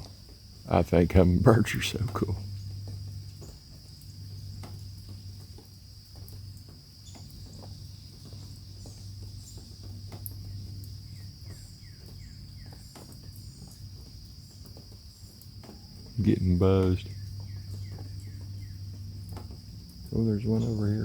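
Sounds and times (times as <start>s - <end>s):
high-pitched insect chorus: 0.0s - 21.0s
low steady hum: 0.0s - 21.0s.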